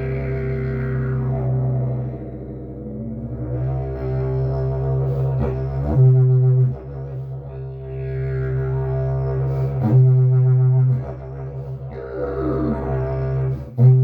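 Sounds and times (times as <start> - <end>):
didgeridoo drone: 0.0 - 14.0.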